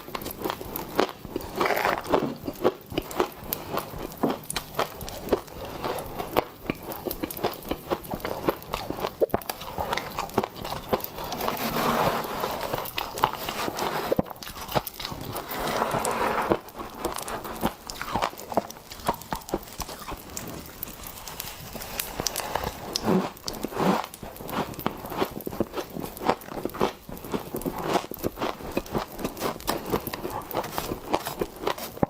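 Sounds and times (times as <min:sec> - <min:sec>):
crunchy chewing: 0:00.0 - 0:32.0
popping candy crackling: 0:00.0 - 0:32.0.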